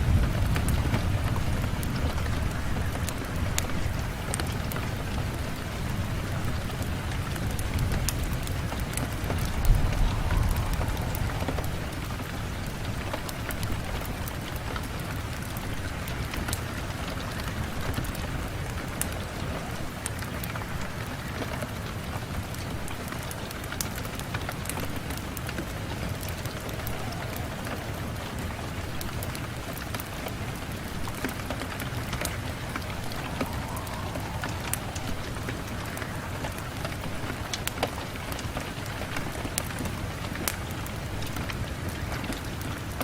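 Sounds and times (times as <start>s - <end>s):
rain on a window: 0.0s - 43.0s.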